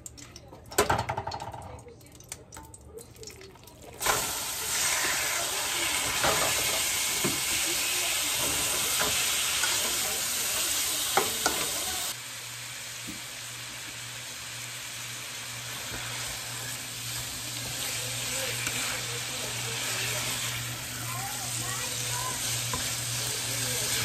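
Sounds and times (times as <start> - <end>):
chicken sizzling in oil: 3.8 - 24.0.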